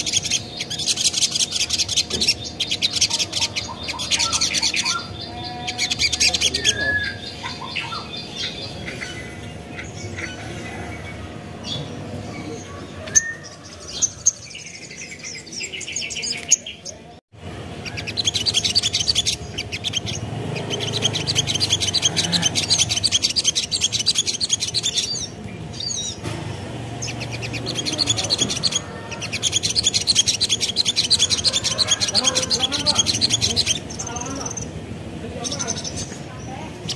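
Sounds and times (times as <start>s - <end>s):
bird chirping and trilling: 0.0s - 36.9s.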